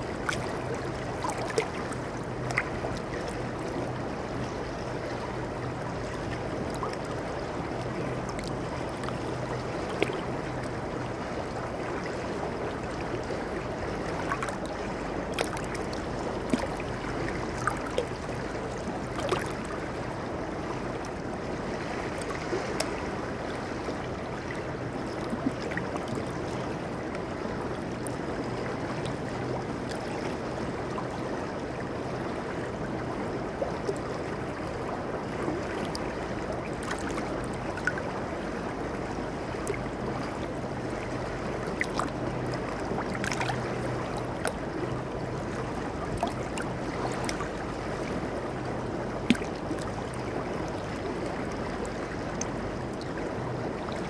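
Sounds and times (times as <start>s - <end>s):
small water splashes: 0.0s - 54.0s.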